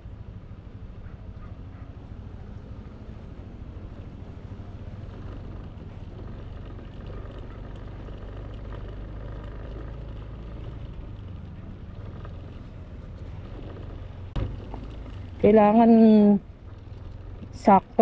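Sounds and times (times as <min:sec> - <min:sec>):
road and wind noise: 0:00.0 - 0:18.0
scooter engine running: 0:01.3 - 0:18.0.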